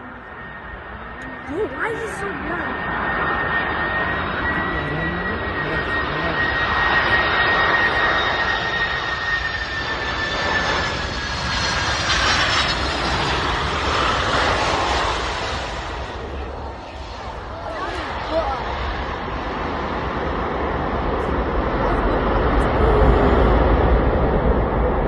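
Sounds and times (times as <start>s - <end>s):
jet airliner roaring overhead: 0.0s - 25.0s.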